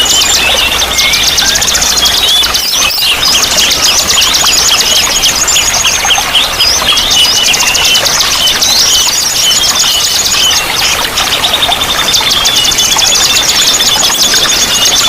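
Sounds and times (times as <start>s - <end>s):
songbirds chirping in chorus: 0.0s - 15.0s.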